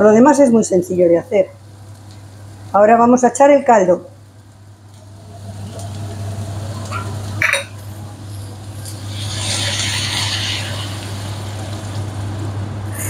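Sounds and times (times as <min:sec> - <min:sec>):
steady low hum: 0:00.0 - 0:13.0
broth hissing in hot pan: 0:01.0 - 0:13.0.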